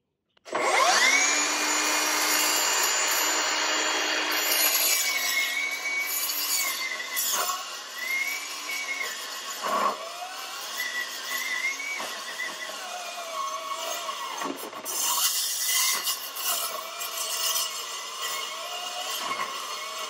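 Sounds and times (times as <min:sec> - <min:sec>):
circular saw cutting steel: 0:00.5 - 0:20.0.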